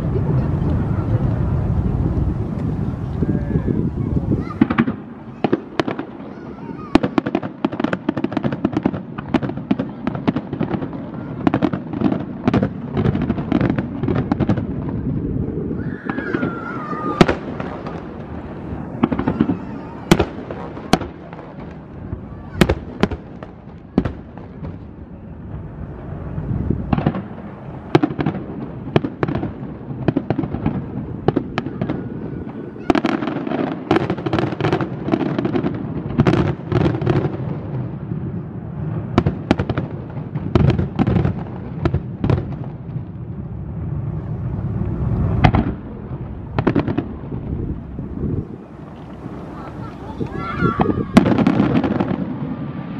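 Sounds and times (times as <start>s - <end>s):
fireworks bursting with crackling: 0.0s - 52.9s.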